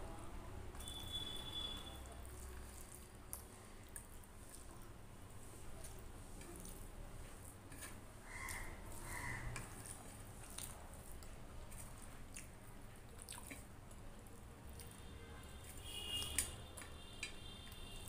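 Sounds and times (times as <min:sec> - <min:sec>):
wet chewing: 0:00.7 - 0:18.0.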